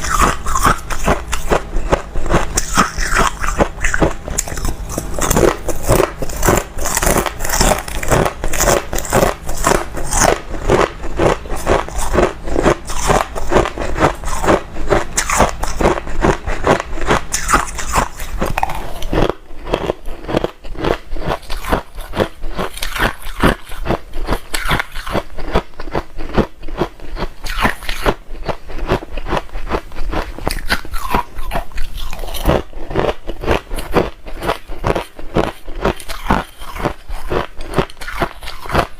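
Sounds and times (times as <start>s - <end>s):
ice crunching while chewed: 0.0s - 38.9s
low steady hum: 0.0s - 38.9s.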